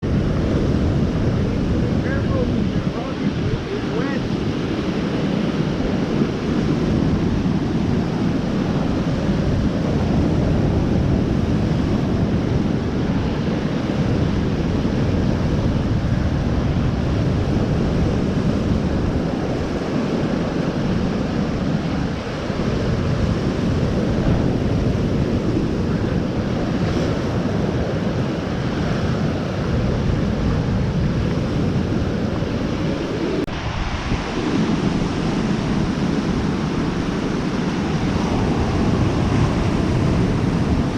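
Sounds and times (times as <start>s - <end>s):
waves washing on a shore: 0.0s - 40.9s
wind buffeting the microphone: 0.0s - 40.9s.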